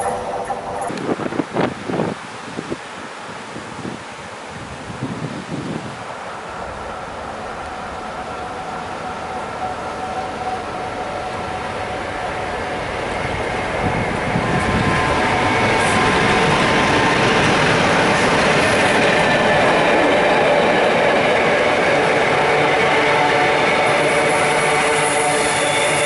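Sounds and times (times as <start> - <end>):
diesel locomotive engine: 0.0 - 1.6, 6.0 - 26.0
wheel and rail noise: 0.0 - 2.2, 6.0 - 26.0.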